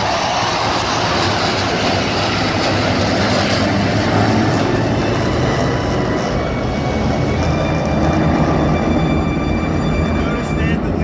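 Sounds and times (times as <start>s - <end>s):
fighter jets roaring past: 0.0s - 11.0s.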